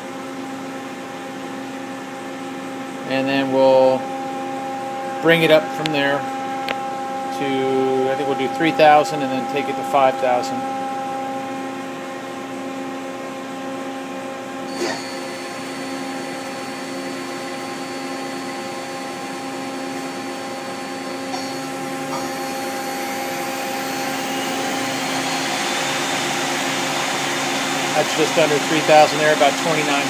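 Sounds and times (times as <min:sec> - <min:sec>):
machine hum: 0:00.6 - 0:30.0
lathe spindle whine: 0:03.3 - 0:12.7, 0:14.6 - 0:30.0.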